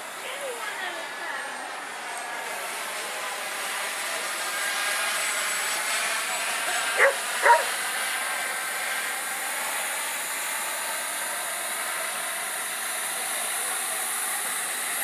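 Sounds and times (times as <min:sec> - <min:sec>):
model jet turbine running: 0:00.0 - 0:15.0.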